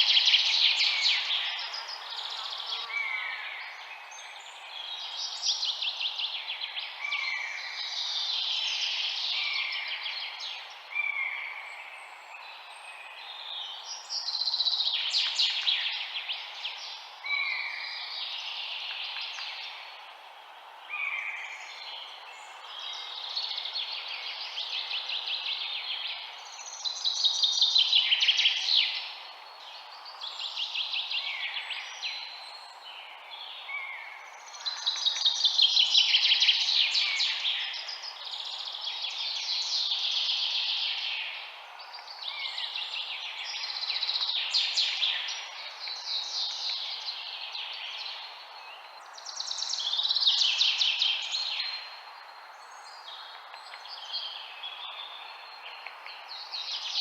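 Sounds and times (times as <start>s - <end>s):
songbirds singing: 0.0s - 57.0s
steady background hiss: 0.0s - 57.0s.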